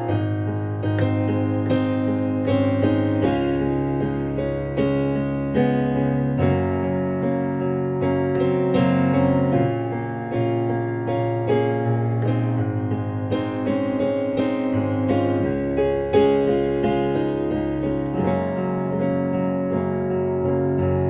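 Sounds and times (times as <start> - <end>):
keyboard instrumental music: 0.0 - 21.0.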